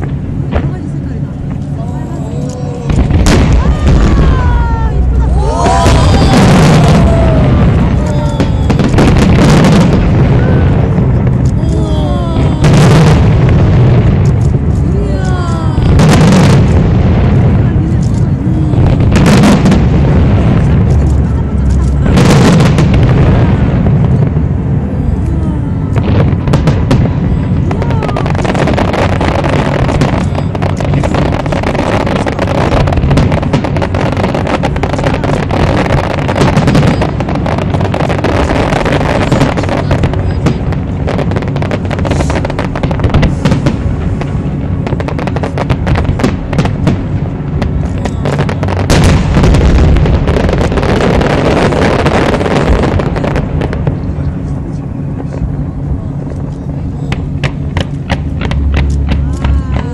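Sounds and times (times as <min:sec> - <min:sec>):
fireworks booms: 0:00.0 - 0:59.9
fireworks bursting and crackling: 0:00.0 - 0:59.9.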